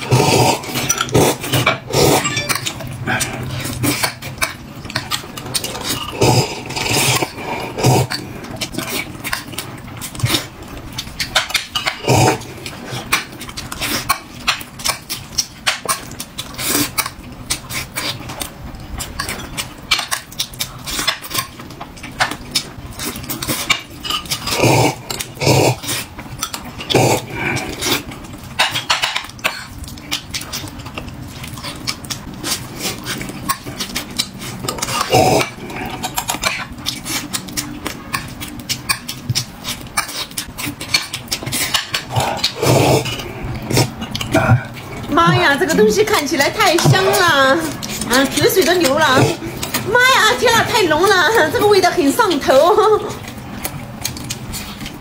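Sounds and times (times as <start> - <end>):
person chewing: 0.0 - 51.6, 52.3 - 55.0.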